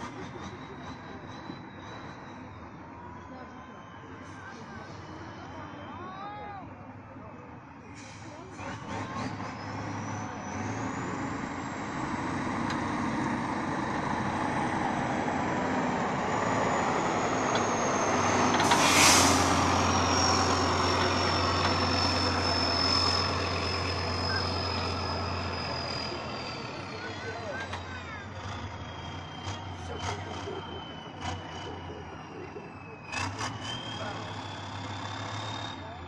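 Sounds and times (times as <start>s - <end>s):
diesel truck engine under load: 0.0s - 5.9s, 6.9s - 36.0s.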